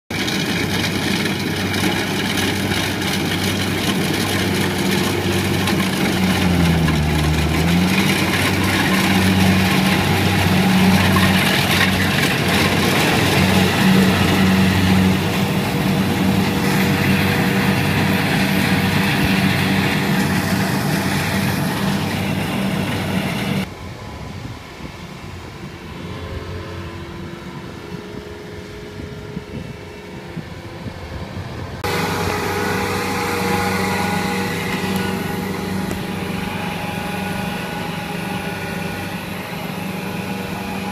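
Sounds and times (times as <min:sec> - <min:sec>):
diesel engine running steadily: 0:00.1 - 0:40.9.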